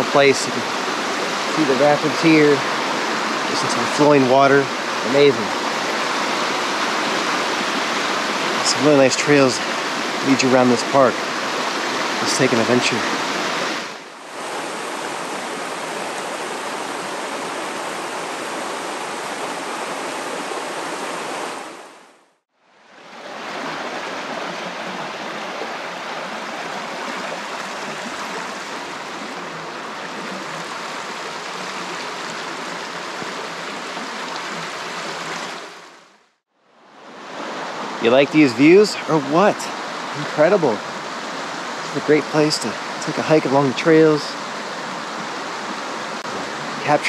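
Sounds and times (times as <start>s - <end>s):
water rushing over rocks: 0.0s - 22.2s, 22.9s - 36.2s, 37.0s - 47.0s.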